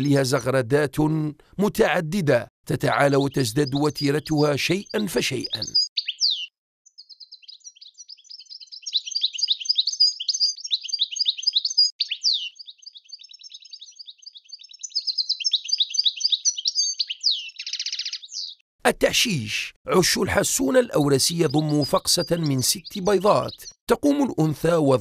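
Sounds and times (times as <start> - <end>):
finch singing: 2.7 - 18.6, 20.0 - 25.0.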